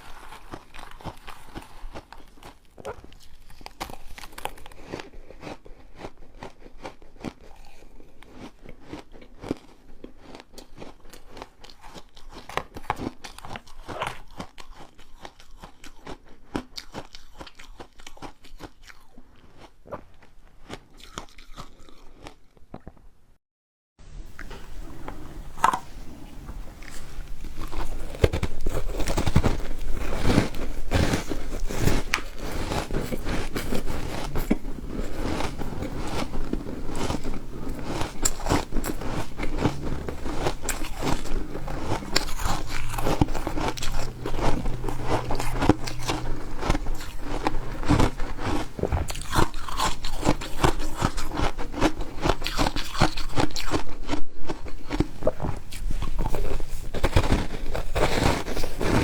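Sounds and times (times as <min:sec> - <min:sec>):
ice being chewed crunching: 0:00.0 - 0:23.0, 0:24.3 - 0:59.0.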